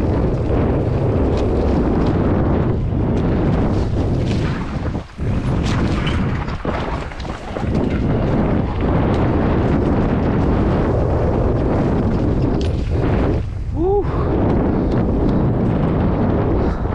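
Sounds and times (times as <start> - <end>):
bike rattling on rough trail: 0.0 - 16.9
wind buffeting microphone: 0.0 - 16.9.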